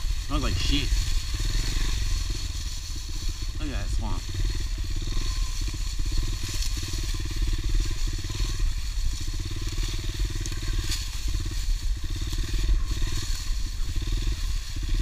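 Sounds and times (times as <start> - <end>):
small motorcycle engine revving: 0.0 - 15.0
steady hiss: 0.0 - 15.0.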